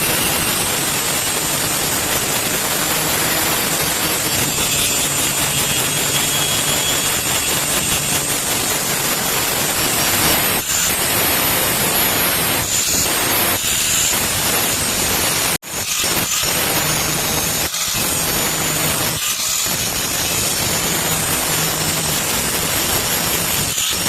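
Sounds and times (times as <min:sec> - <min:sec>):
power grinder grinding steel: 0:00.0 - 0:24.0.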